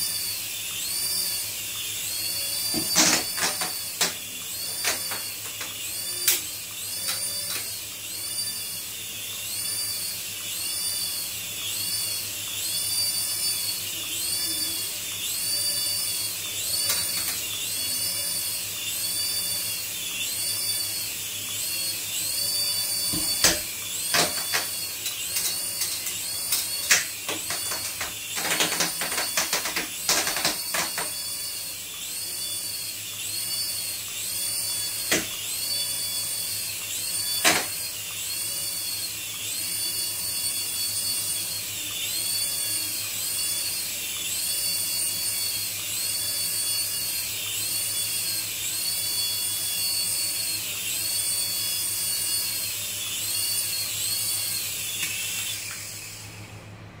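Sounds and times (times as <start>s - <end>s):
toy helicopter motor whining: 0.0s - 56.5s.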